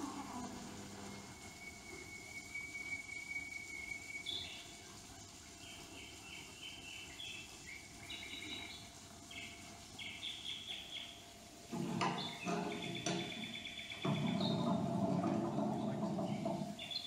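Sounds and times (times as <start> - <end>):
nightingale song: 1.3 - 4.8, 5.5 - 11.2, 12.0 - 17.0.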